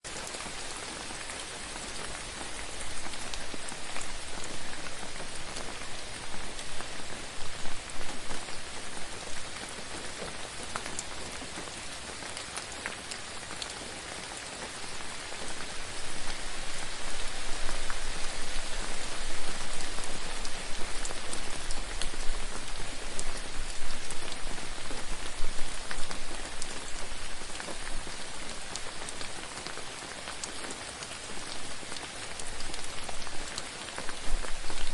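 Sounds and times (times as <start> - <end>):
steady rain: 0.0 - 34.9
sharp raindrop ticks: 0.1 - 15.6, 17.6 - 34.9.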